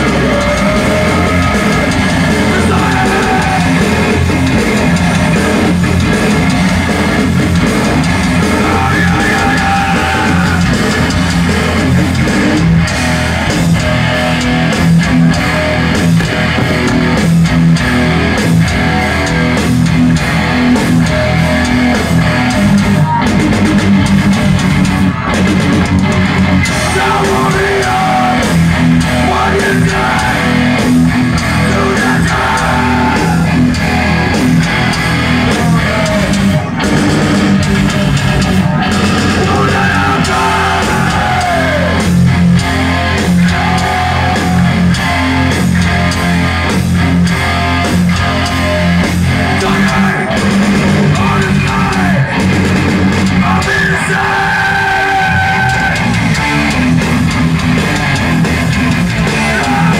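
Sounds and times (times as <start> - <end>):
bass guitar: 0.0 - 59.9
drums: 0.0 - 59.9
electric guitars: 0.0 - 59.9.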